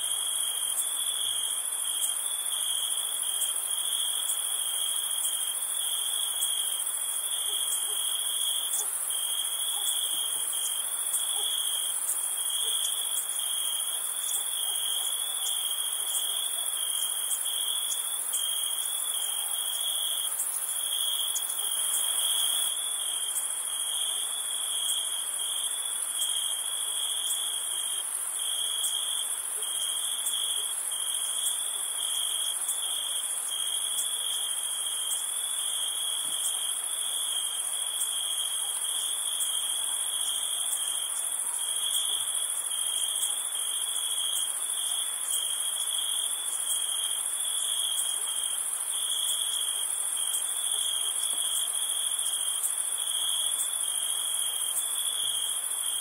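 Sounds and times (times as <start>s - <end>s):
hissing insect chorus: 0.0s - 56.0s
crickets trilling: 0.2s - 56.0s
shrill insect trill: 0.2s - 56.0s.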